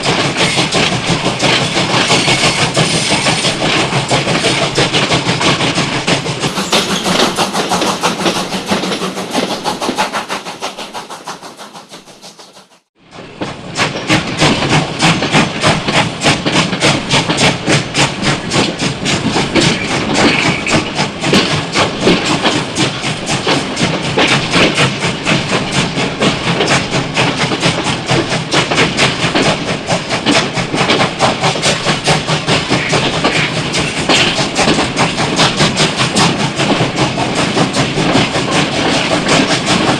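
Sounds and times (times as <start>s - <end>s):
train rushing on rails: 0.0s - 39.9s
train wheels clattering: 0.0s - 39.9s.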